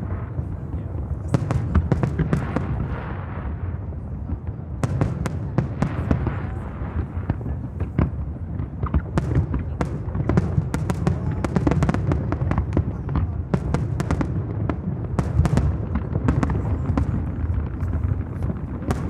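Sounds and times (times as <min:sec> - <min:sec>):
fireworks cracks and bangs: 0:00.0 - 0:19.0.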